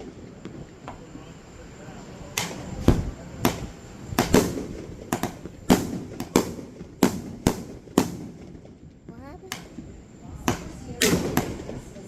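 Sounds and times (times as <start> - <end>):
fireworks bangs echoing: 2.3 - 12.0.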